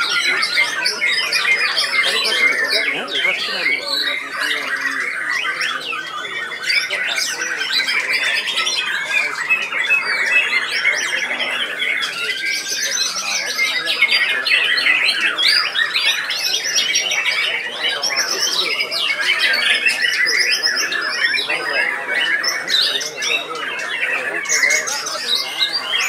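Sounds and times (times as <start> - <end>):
birds singing whistled notes: 0.0 - 26.0.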